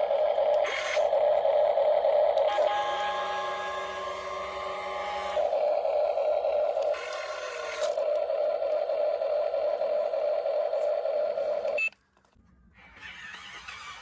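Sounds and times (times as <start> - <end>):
small motor whirring: 0.0 - 11.8, 12.7 - 14.0.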